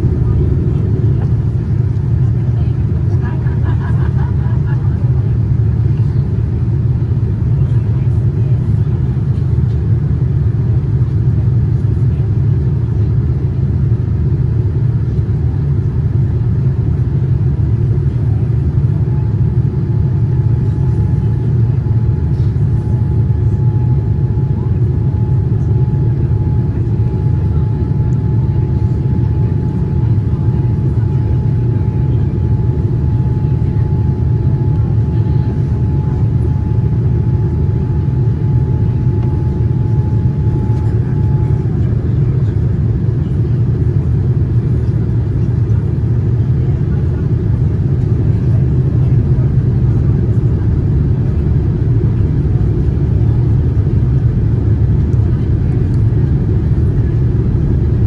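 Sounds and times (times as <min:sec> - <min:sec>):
airliner cabin low rumble: 0:00.0 - 0:58.0.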